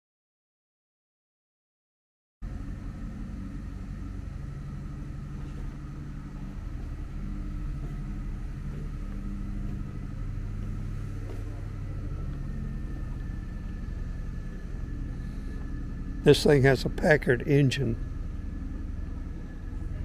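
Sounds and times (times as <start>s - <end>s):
faint high whine: 2.4s - 20.0s
low mechanical rumble: 2.4s - 20.0s.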